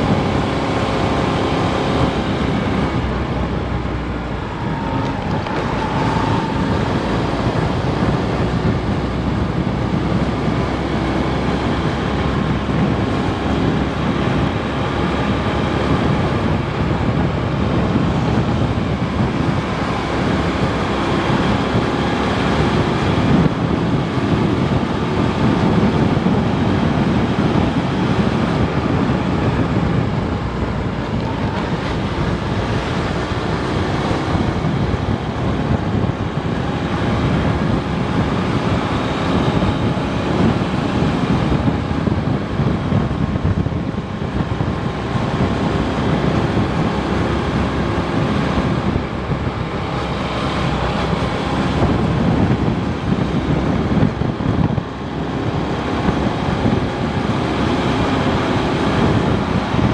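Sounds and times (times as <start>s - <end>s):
motorcycle engine running: 0.0s - 59.9s
wind and road noise on microphone: 0.0s - 59.9s.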